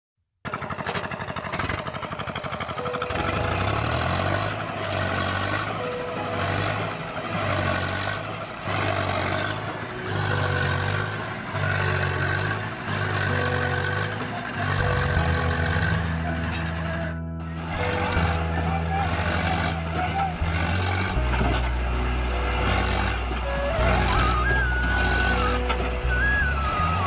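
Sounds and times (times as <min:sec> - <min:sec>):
tractor diesel engine under load: 0:00.4 - 0:27.0.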